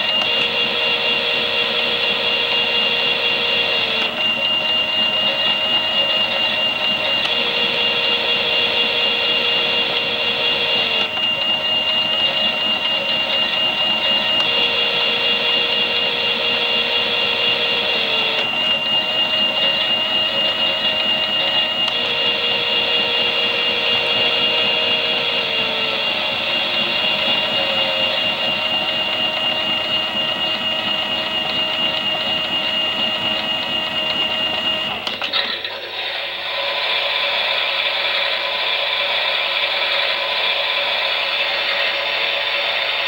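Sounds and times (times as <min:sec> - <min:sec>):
small electric motor whining: 0:00.0 - 0:43.0.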